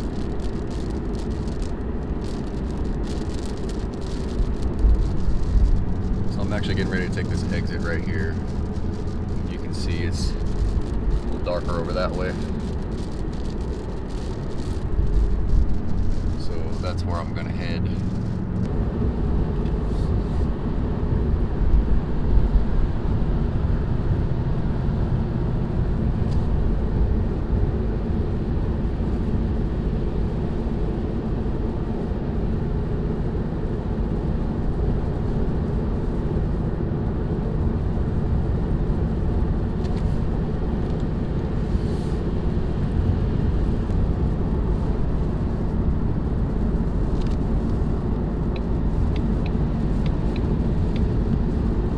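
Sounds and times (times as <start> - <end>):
car engine drone in cabin: 0.0 - 51.9.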